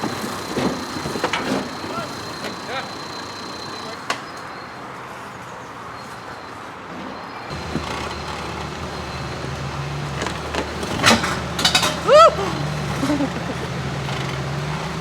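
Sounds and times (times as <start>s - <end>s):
off-road vehicle engine: 0.0s - 4.6s, 7.5s - 15.0s.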